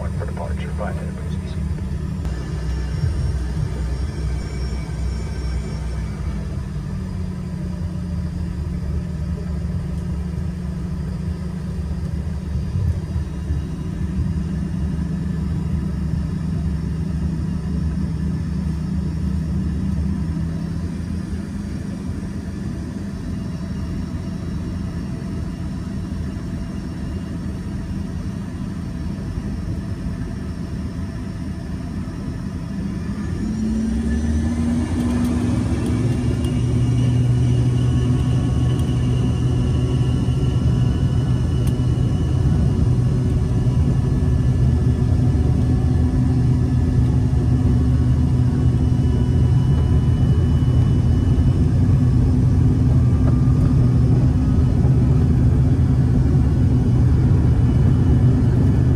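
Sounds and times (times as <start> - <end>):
jet engines humming from cabin: 0.0 - 58.9.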